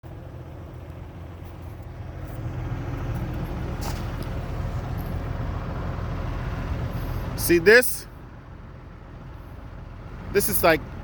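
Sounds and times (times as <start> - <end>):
diesel paving machinery rumbling: 0.0 - 11.0.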